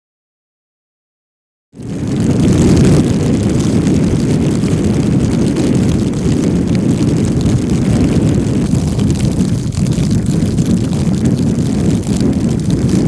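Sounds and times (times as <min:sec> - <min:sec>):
strong wind buffeting microphone: 0:01.8 - 0:13.0.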